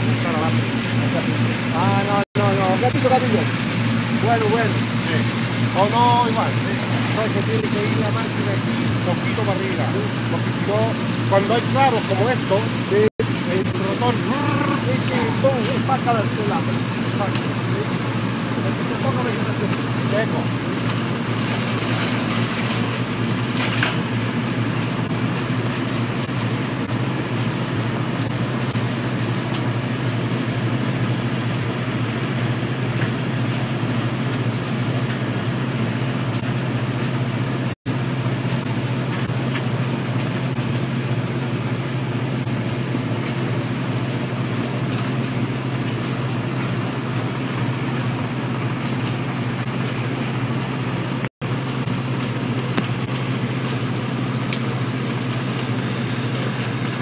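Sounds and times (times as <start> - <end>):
harvester mechanical drone: 0.0 - 57.0.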